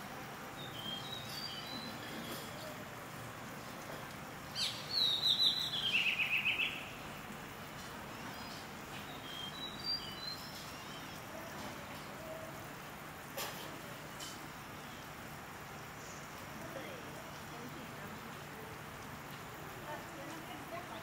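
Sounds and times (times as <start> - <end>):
outdoor background noise: 0.0 - 21.0
songbird singing: 0.1 - 13.0, 14.0 - 21.0.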